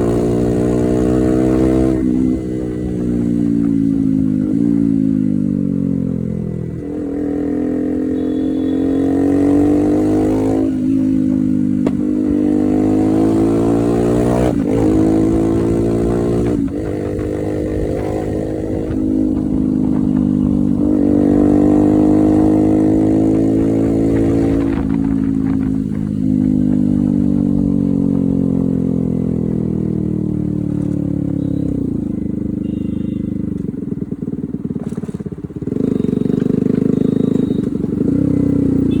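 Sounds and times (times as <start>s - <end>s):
motorcycle engine: 0.0s - 39.0s.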